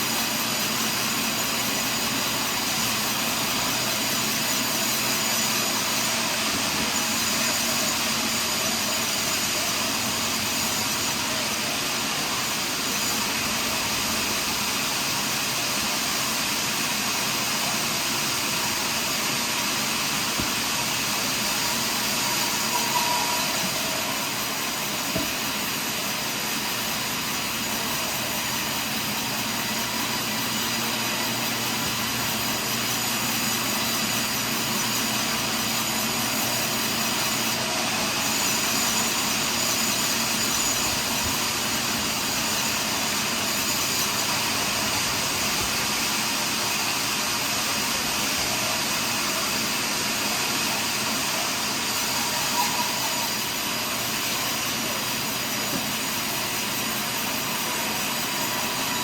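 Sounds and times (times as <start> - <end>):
sawmill milling a log: 0.0 - 59.0.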